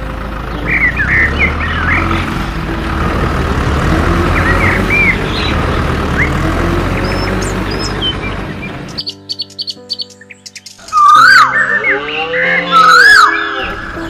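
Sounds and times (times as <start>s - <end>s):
low motor drone: 0.0s - 9.1s, 11.5s - 14.0s
birds chirping: 0.0s - 14.0s.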